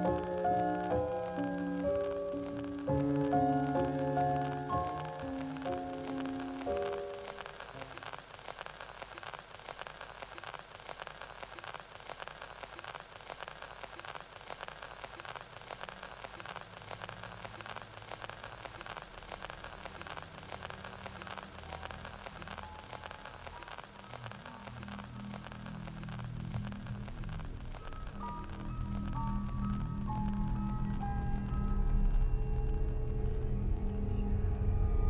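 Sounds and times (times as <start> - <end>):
dense crackling patter: 0.0 - 35.0.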